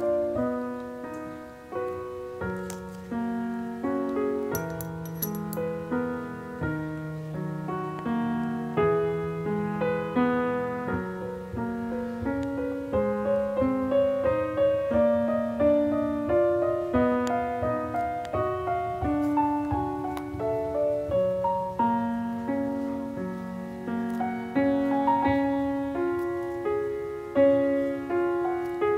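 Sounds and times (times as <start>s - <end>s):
gentle solo piano music: 0.0s - 28.9s.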